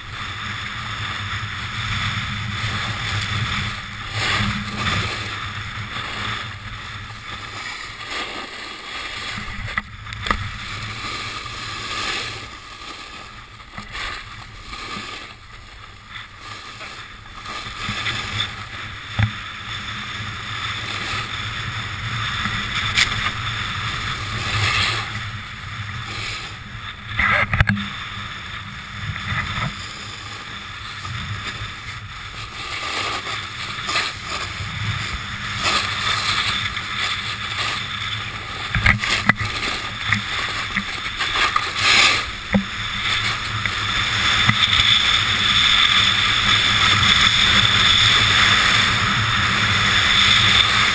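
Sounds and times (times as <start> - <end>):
ski edges scraping snow: 0.0 - 50.9
wind rushing over microphone: 0.0 - 50.9.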